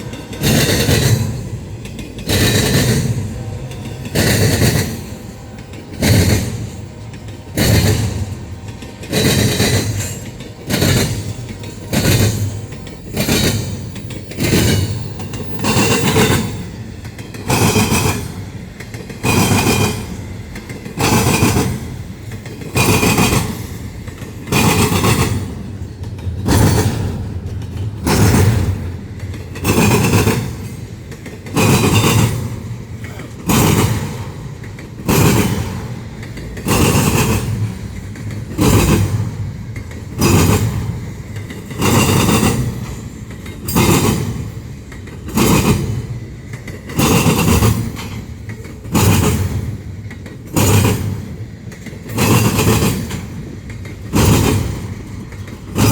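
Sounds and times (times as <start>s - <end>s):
train rumble: 0.0s - 55.9s
train wheels clunking over rail joint: 0.0s - 55.9s.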